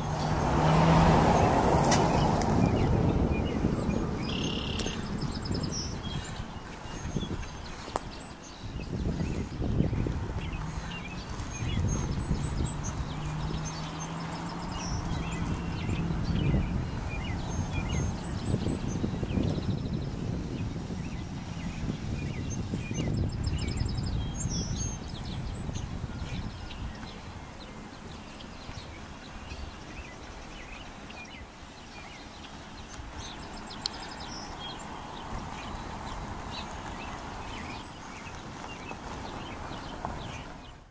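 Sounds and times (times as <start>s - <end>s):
birds chirping and trilling: 0.0s - 40.9s
wind rumble on microphone: 0.0s - 40.9s.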